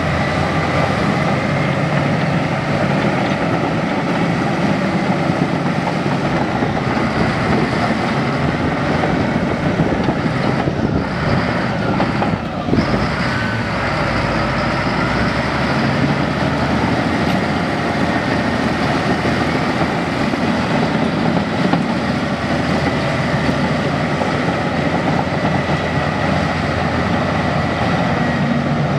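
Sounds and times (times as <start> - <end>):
heavy machine engine running: 0.0 - 28.9.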